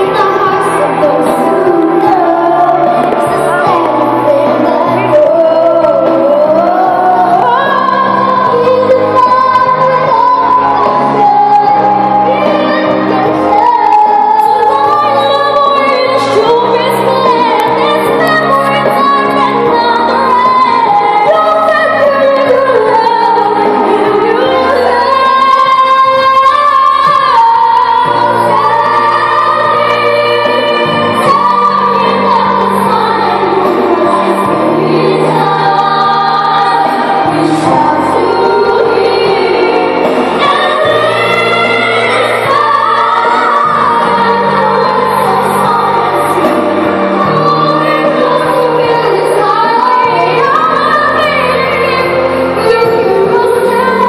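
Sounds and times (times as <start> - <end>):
girls singing a ballad: 0.0 - 54.0
instrumental accompaniment: 0.0 - 54.0.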